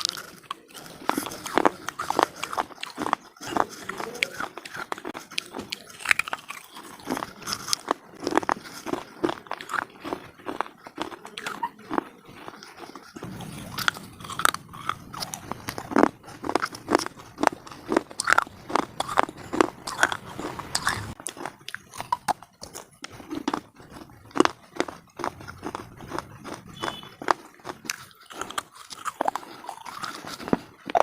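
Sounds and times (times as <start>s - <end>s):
crunching and chewing slate: 0.0s - 31.0s.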